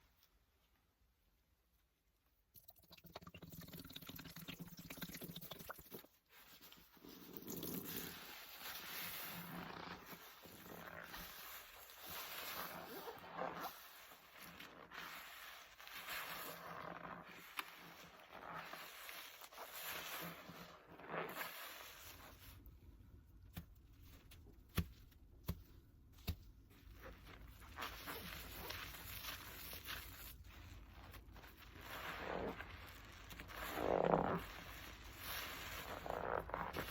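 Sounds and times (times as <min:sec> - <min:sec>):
foam-soaked sponge squelching: 0:03.6 - 0:36.9.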